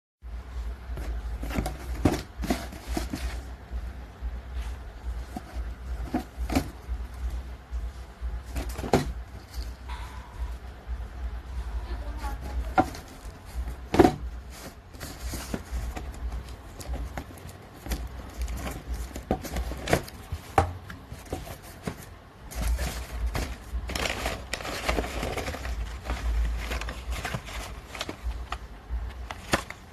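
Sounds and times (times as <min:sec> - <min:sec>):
rustling: 0:00.3 - 0:10.8, 0:11.4 - 0:29.9.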